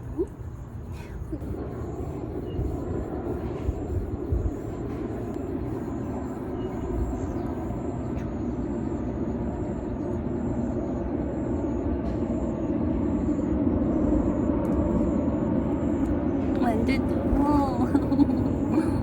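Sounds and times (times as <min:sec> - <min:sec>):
faint high chirp: 0:00.0 - 0:03.5, 0:04.5 - 0:17.8.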